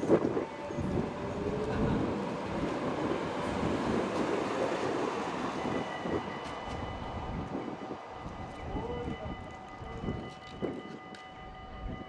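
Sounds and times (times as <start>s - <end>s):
tram rolling on track: 0.0s - 12.0s.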